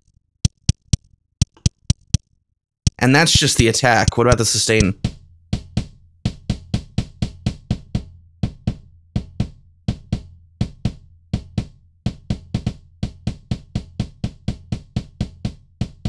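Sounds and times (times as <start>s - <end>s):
kick drum pattern: 2.9s - 16.0s.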